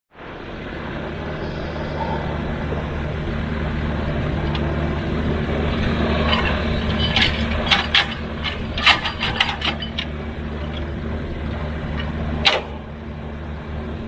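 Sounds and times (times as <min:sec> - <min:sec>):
excavator diesel engine running: 0:00.1 - 0:14.0.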